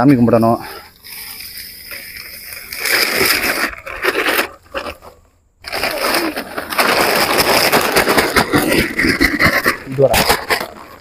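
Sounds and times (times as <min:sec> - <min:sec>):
plastic bag crinkling: 0:00.7 - 0:11.0.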